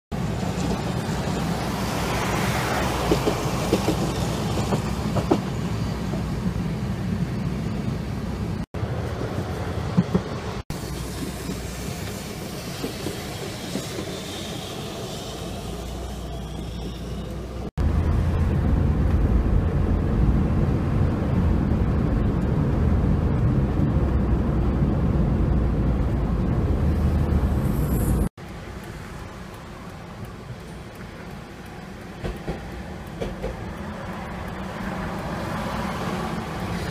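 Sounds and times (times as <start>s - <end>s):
rumble of wheels on rails: 0.1s - 36.9s.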